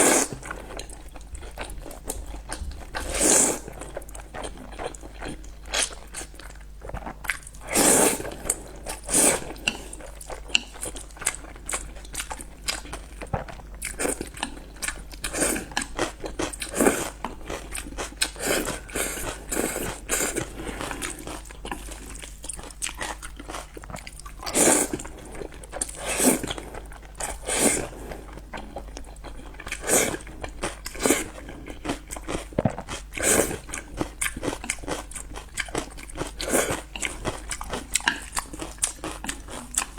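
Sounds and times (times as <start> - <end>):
person chewing noodles: 0.0 - 39.9.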